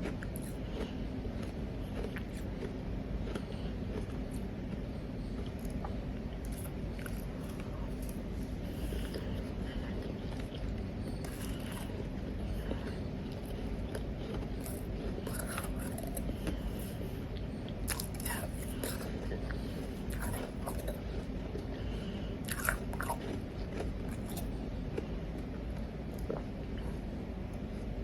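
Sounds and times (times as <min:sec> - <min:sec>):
chewing crunchy ice: 0:00.0 - 0:27.0
steady low hum: 0:00.0 - 0:28.0.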